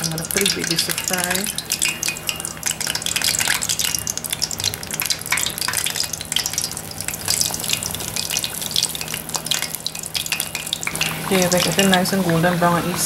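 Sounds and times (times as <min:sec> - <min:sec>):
hot oil bubbling and crackling: 0:00.0 - 0:13.0.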